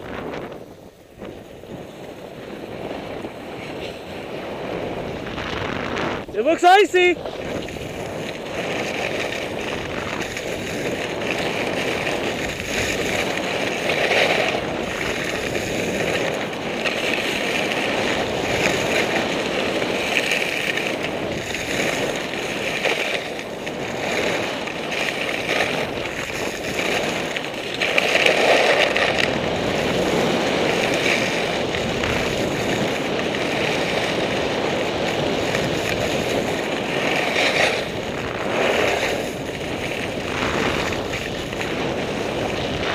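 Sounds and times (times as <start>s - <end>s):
skis scraping on icy snow: 0.0s - 42.9s
wind on microphone: 0.0s - 42.9s.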